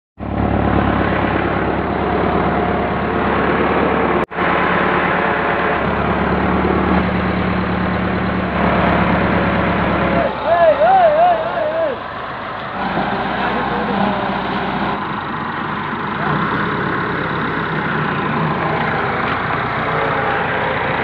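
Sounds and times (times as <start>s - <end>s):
tractor diesel engine running: 0.2s - 21.0s.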